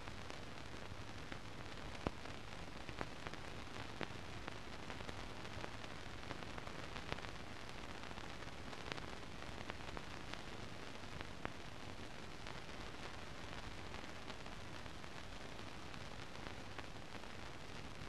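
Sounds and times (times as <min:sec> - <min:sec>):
film hiss with crackles: 0:00.0 - 0:18.0.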